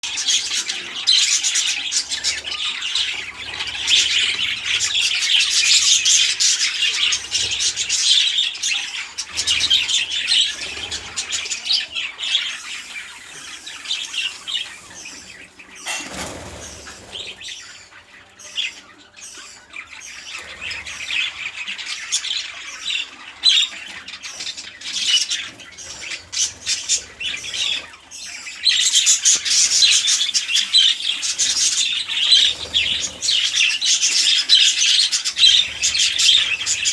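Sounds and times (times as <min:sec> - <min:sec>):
budgerigars chattering and squawking: 0:00.0 - 0:36.9.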